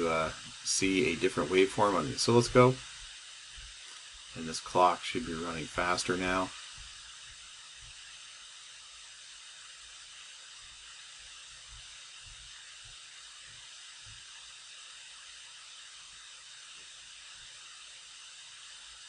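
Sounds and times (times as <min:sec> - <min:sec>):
microphone hiss: 0:00.0 - 0:19.0.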